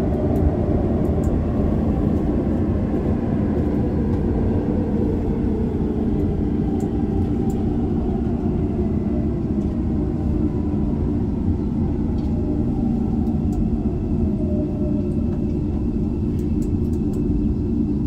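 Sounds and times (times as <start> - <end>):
subway train rumbling in tunnel: 0.0 - 18.0.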